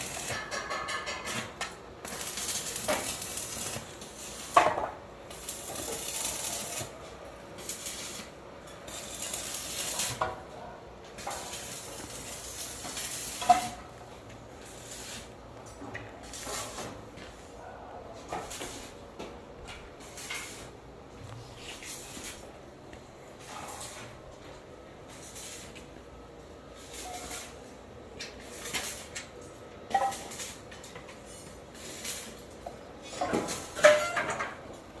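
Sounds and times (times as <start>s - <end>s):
arc welding crackling: 0.0s - 17.3s, 18.3s - 35.0s.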